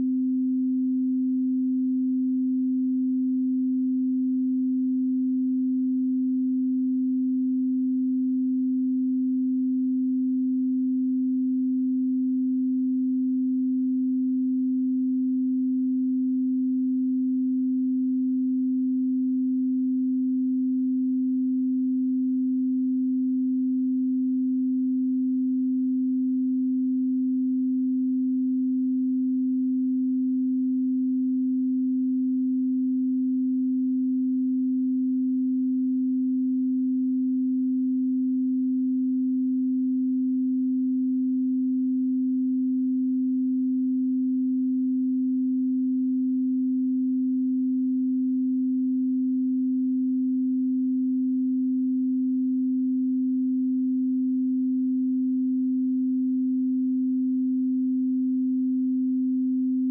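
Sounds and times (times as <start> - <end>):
sine calibration tone: 0.0 - 59.9.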